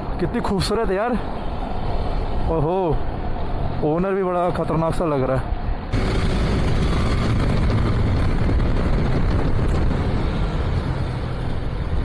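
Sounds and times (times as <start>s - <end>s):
motorcycle road and wind noise: 0.0s - 12.0s
surrounding traffic: 0.0s - 12.0s.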